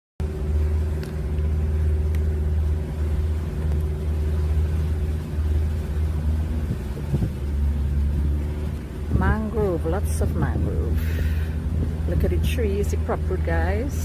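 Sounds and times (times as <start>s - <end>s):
boat motor droning: 0.2s - 14.0s.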